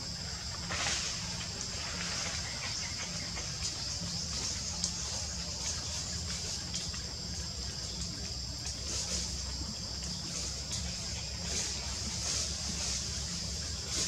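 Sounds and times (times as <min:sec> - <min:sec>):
constant low rumble: 0:00.0 - 0:14.0
high hissing insect chorus: 0:00.0 - 0:14.0.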